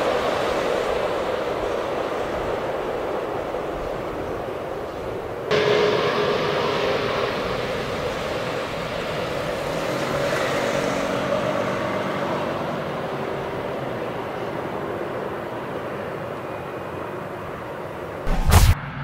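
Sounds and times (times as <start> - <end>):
jet engines rushing with whine: 0.0 - 19.0.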